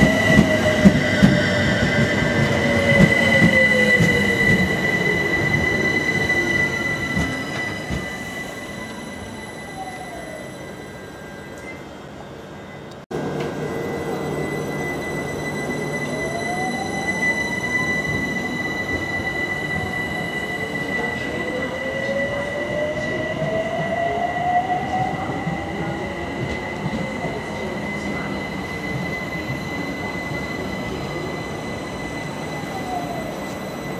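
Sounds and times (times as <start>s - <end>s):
train wheels rumbling on rail: 0.0s - 10.4s, 12.9s - 33.9s
train whine falling in pitch: 0.0s - 11.8s, 13.1s - 33.9s
high-pitched train whine: 0.0s - 33.9s.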